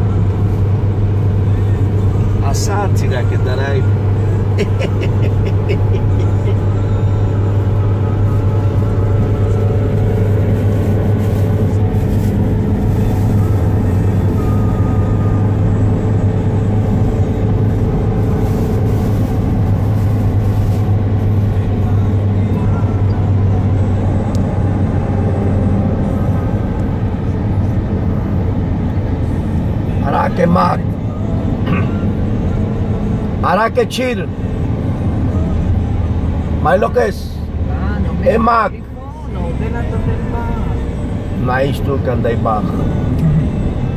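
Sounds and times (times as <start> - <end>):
car cabin road noise: 0.0 - 43.9.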